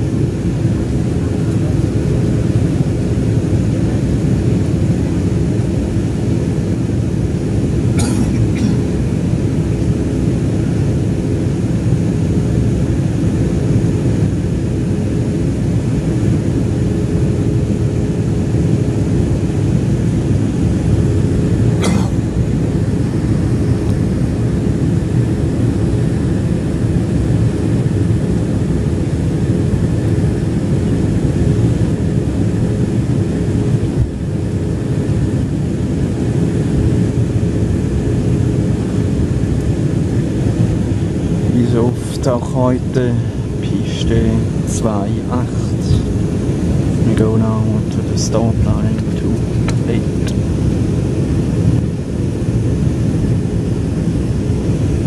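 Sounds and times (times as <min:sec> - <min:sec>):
aircraft cabin engine drone: 0:00.0 - 0:55.0
faint steady hum: 0:00.0 - 0:55.0.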